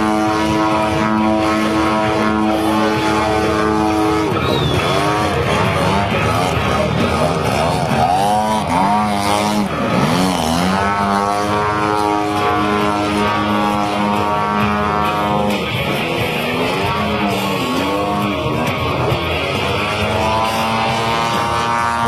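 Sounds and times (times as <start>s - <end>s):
model airplane engine drone: 0.0s - 22.0s.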